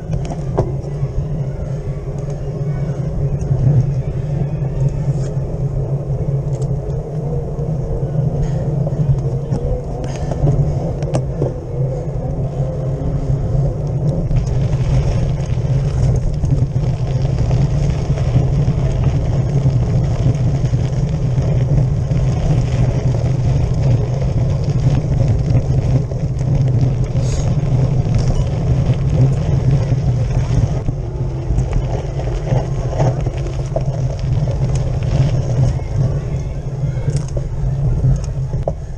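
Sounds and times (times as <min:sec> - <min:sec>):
bike tyre and road noise: 0:00.0 - 0:38.9
wind rushing over microphone: 0:00.0 - 0:38.9.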